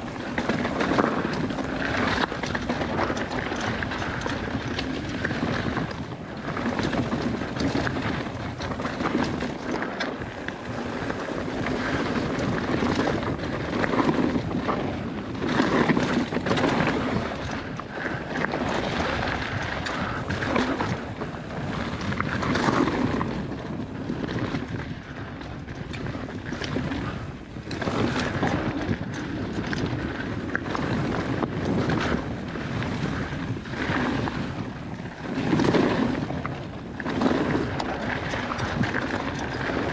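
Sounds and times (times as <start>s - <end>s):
bike tyres rolling on gravel: 0.0s - 39.9s
stones clattering and bike rattling: 0.0s - 39.9s
wind rushing over microphone: 0.0s - 39.9s.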